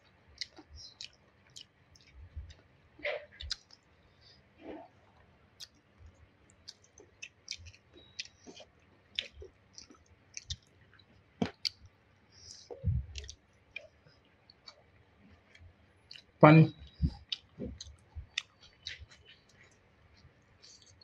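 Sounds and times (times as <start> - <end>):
chewing with wet mouth clicks: 0.4 - 2.7, 3.3 - 3.9, 5.6 - 5.9, 6.5 - 21.0.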